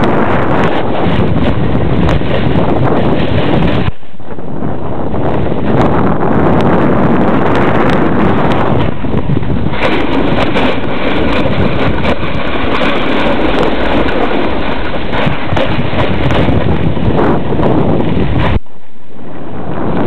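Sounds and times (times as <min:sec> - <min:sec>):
skis scraping over snow: 0:00.0 - 0:04.7, 0:05.3 - 0:18.6
wind rushing over microphone: 0:00.0 - 0:20.0.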